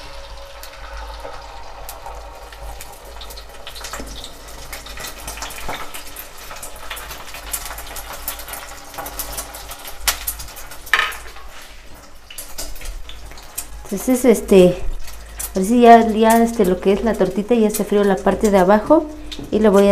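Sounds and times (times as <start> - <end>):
egg sizzling in hot oil: 0.0 - 19.9.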